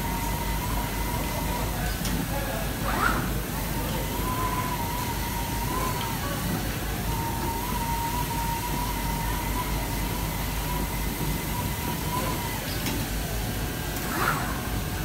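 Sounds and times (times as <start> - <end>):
fabric cutter whine: 0.0 - 15.0.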